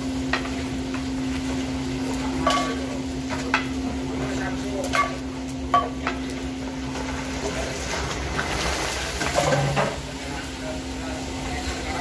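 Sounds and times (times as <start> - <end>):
crackers sizzling in hot oil: 0.0 - 12.0.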